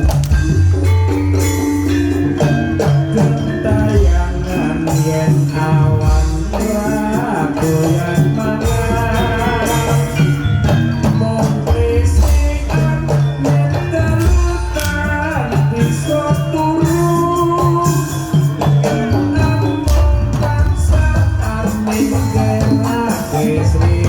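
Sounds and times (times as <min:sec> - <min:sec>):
drums: 0:00.0 - 0:24.0
jingling bells: 0:00.0 - 0:24.0
tuned metal percussion: 0:00.0 - 0:24.0.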